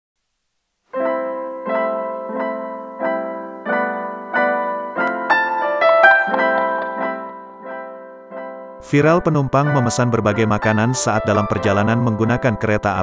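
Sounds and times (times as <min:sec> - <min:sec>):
piano chords: 0:00.9 - 0:13.0.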